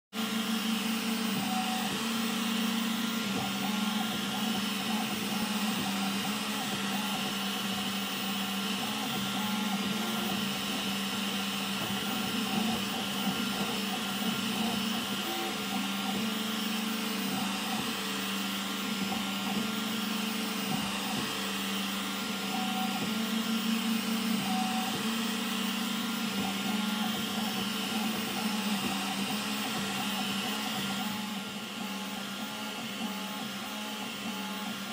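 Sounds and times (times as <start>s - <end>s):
stepper motors whining: 0.2s - 34.9s.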